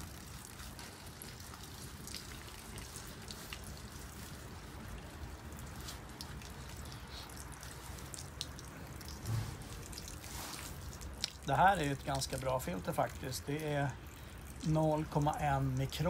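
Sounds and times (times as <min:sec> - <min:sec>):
small water drips: 0:00.0 - 0:16.0
water trickling from a filter: 0:00.0 - 0:16.0.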